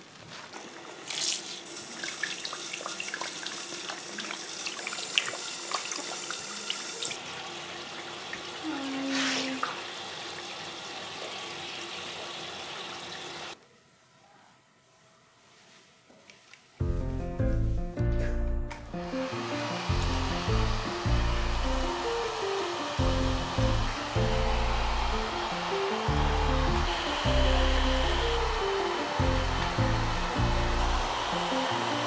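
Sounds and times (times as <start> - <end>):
shower water spraying: 0.6 - 13.6, 18.9 - 32.0.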